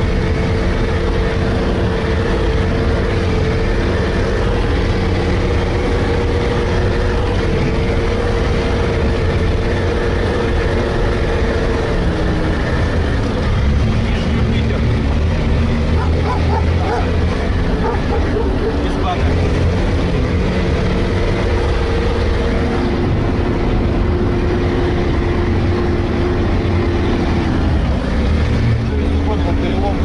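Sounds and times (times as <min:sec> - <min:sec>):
engine whine: 0:00.0 - 0:30.0
vehicle engine running: 0:00.0 - 0:30.0.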